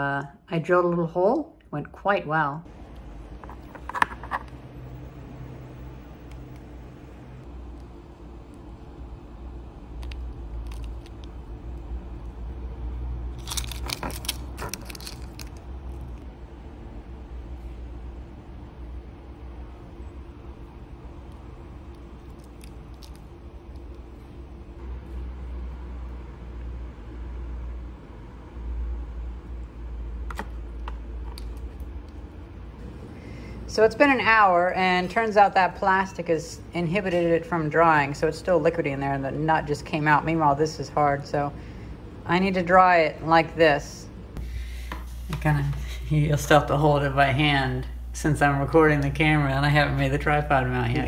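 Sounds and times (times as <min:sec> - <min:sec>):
steady low hum: 0:00.0 - 0:51.0
steady low rumble: 0:02.6 - 0:51.0.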